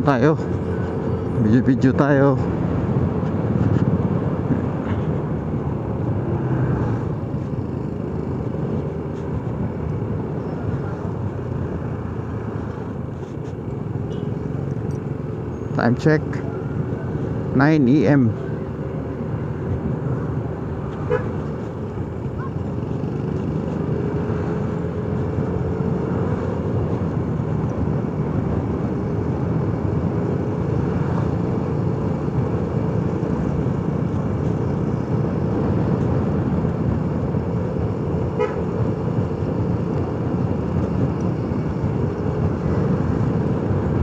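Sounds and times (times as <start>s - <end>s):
wind rush on microphone: 0.0s - 13.7s, 19.2s - 44.0s.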